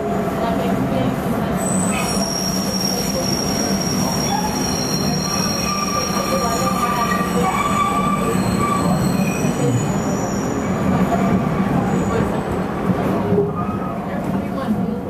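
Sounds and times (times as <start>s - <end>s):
train wheels squealing on rails: 1.5s - 14.3s.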